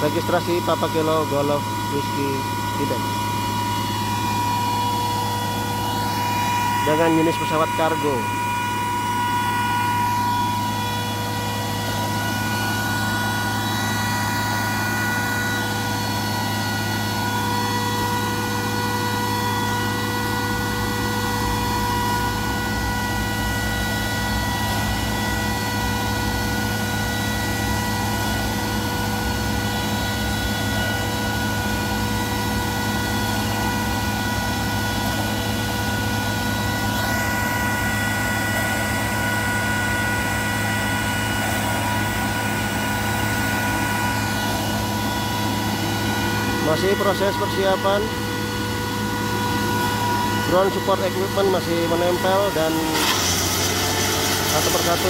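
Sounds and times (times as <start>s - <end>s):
steady high whine: 0.0s - 55.0s.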